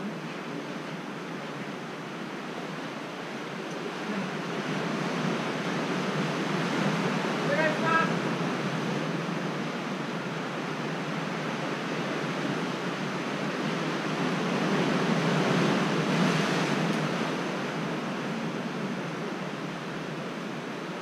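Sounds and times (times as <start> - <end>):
surf washing against rocks: 0.1 - 21.0.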